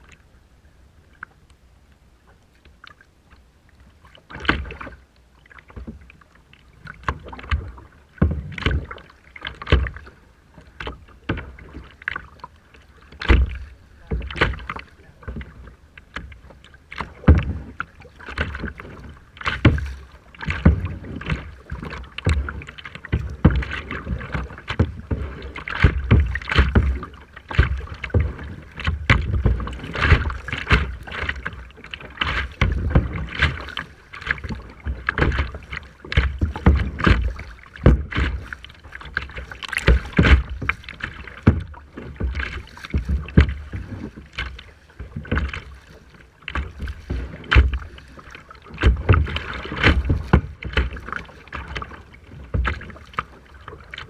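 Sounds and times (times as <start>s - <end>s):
sea water splashing: 0.0s - 54.0s.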